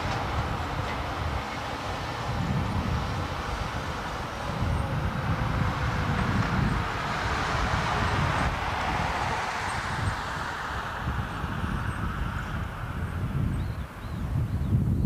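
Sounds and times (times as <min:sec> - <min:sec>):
distant train running on viaduct: 0:00.0 - 0:15.0
wind buffeting microphone: 0:00.0 - 0:15.0.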